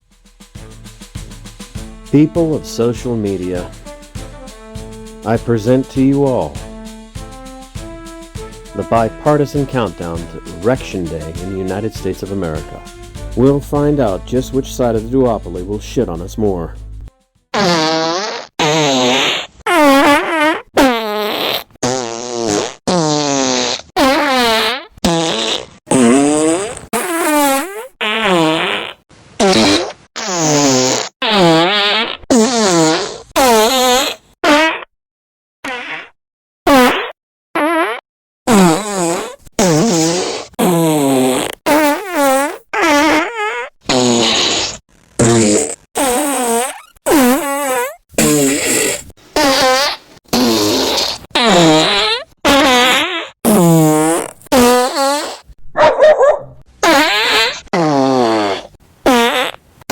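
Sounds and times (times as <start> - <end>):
fart sound effects: 2.1 - 16.7, 17.5 - 34.9, 35.6 - 55.6, 56.8 - 59.9.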